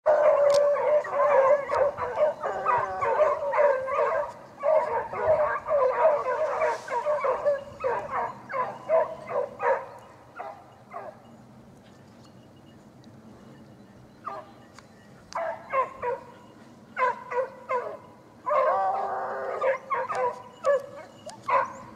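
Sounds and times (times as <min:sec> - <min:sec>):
hounds baying in chorus: 0:00.0 - 0:11.4, 0:14.2 - 0:14.6, 0:15.2 - 0:21.9.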